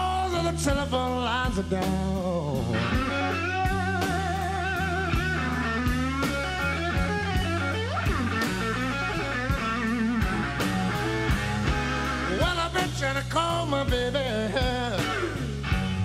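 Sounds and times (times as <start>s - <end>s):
bass: 0.0s - 16.0s
electric guitar blues fill: 0.0s - 16.0s
steady drum strokes: 2.6s - 16.0s.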